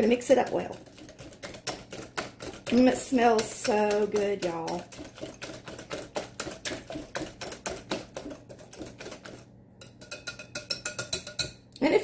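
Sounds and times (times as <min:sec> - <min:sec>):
whisk clicking against glass bowl: 0:00.0 - 0:11.6.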